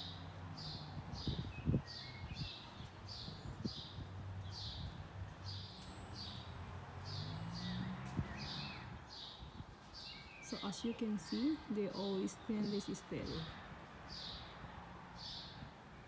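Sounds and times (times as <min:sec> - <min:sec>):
bird chirping: 0:00.0 - 0:15.7.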